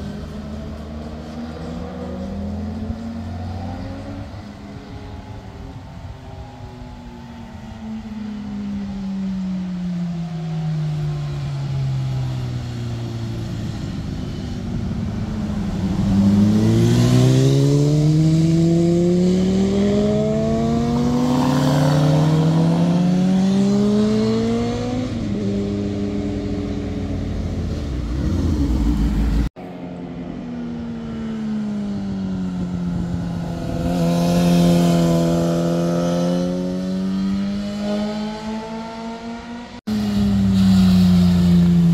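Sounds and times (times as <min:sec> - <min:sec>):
motorcycle engines: 0:00.0 - 0:41.9.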